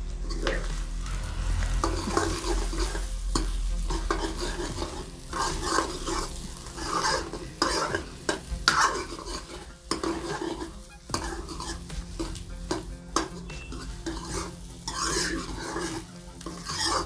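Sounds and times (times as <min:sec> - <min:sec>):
ladle scraping a pan: 0:00.0 - 0:17.0
light sizzle of frying: 0:00.0 - 0:17.0.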